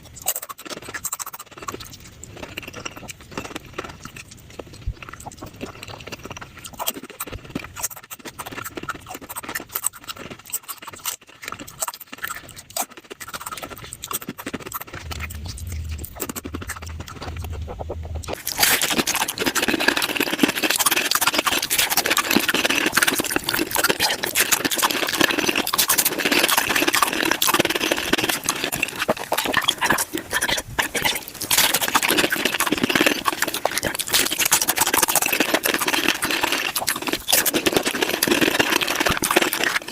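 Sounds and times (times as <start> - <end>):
sped-up crunching and chewing: 0.0 - 39.9.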